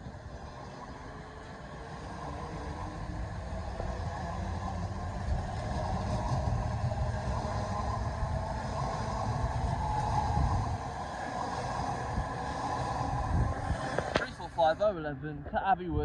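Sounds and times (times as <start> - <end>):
train rumbling past: 0.0 - 15.0
faint steady whine: 0.0 - 16.0.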